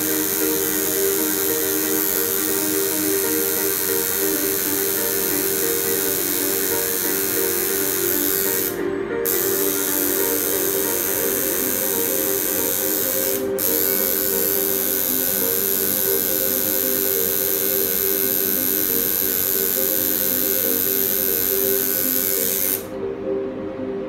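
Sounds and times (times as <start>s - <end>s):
tattoo machine buzzing: 0.0s - 23.0s.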